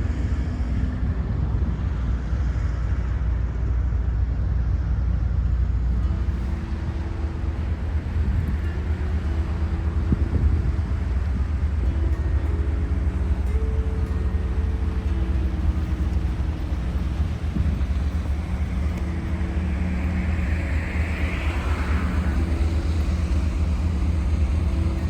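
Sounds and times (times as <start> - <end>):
boat engine running: 0.0 - 25.0
heavy low-pitched noise: 0.0 - 25.0.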